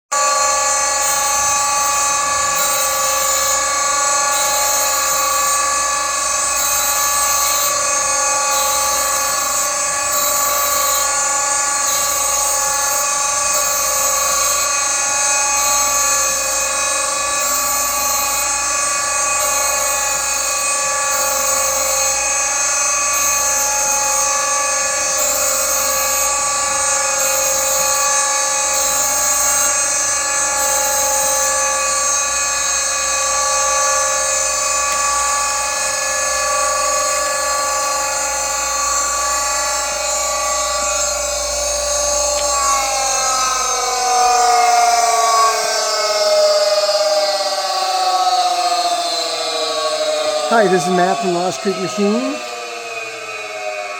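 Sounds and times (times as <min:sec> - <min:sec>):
surface grinder whining: 0:00.2 - 0:48.4.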